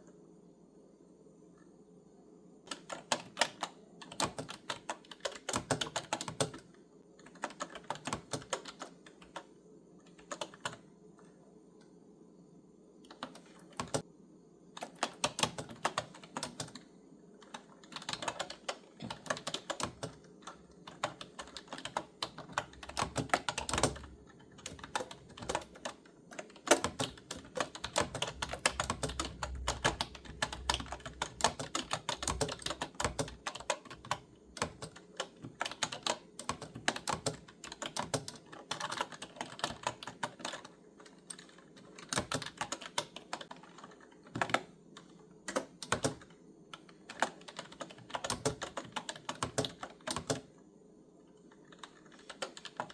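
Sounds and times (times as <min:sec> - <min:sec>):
typing on clicky keyboard: 0:02.7 - 0:09.5, 0:10.1 - 0:11.3, 0:13.0 - 0:14.1, 0:14.8 - 0:50.5, 0:51.4 - 0:52.9.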